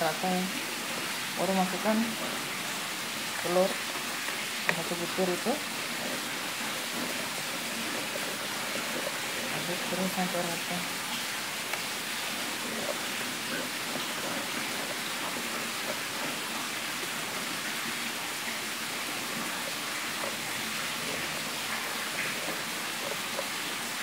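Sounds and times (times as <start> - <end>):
wire whisk swishing batter: 3.4 - 24.0.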